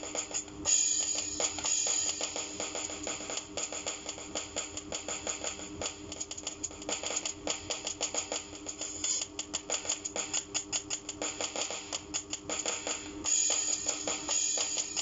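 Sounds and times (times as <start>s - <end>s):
electronic hi-hat strikes: 0.0s - 15.0s
washing machine hum: 0.0s - 15.0s.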